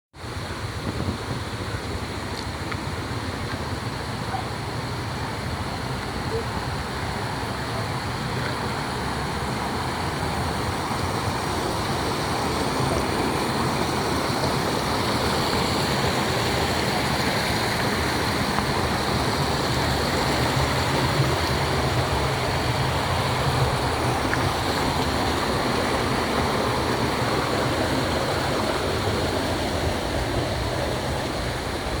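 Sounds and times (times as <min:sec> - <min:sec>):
flowing water rushing: 0:00.2 - 0:32.0.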